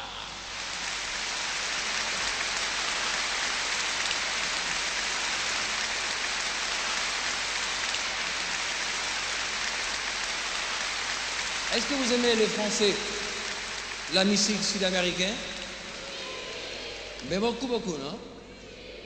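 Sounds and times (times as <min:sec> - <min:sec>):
audience applauding: 0:00.0 - 0:17.9.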